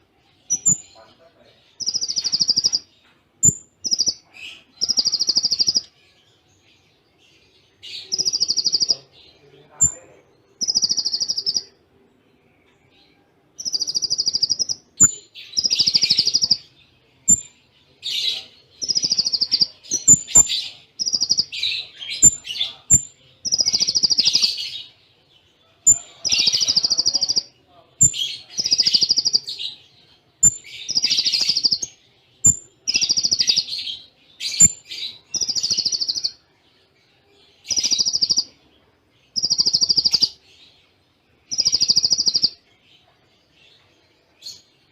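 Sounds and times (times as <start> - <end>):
bird singing buzzy trills: 0.0 - 42.8.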